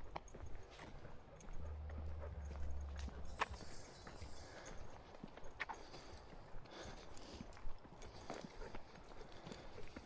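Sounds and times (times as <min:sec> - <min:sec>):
footsteps on a trail: 0:00.0 - 0:10.0.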